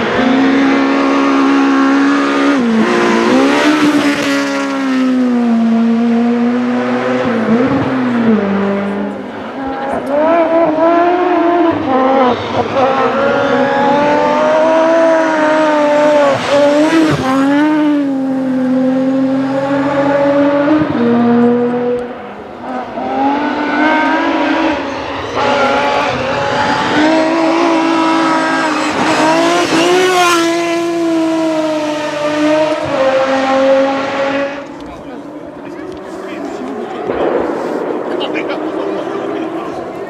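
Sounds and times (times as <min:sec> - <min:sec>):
rally car engine revving: 0:00.0 - 0:40.0.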